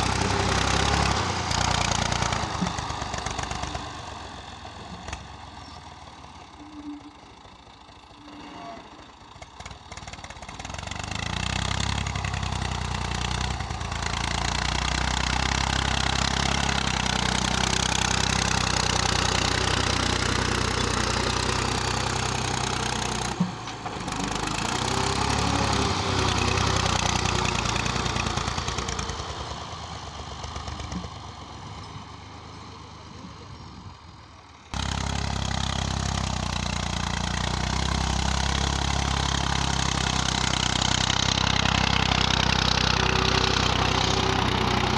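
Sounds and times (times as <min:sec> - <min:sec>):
tractor diesel engine: 0:00.0 - 0:44.9.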